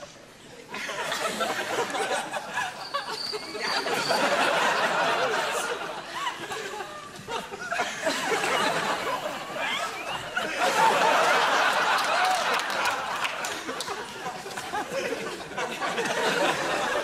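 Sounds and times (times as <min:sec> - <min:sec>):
audience laughing: 0:00.7 - 0:17.0.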